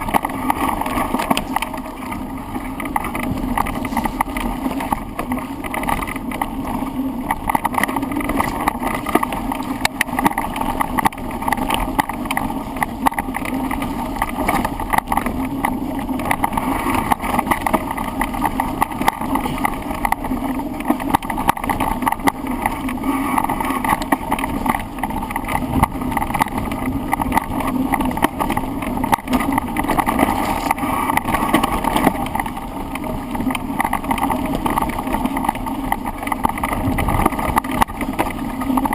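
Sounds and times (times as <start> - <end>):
bike rattling and knocking: 0.0 - 38.9
wind rush over microphone: 0.0 - 38.9.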